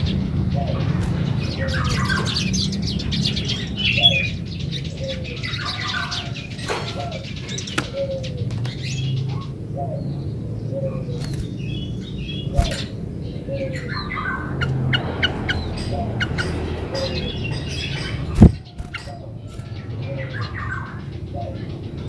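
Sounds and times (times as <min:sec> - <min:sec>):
bulbul chattering song: 0:00.0 - 0:22.0
steady low hum: 0:00.0 - 0:22.0.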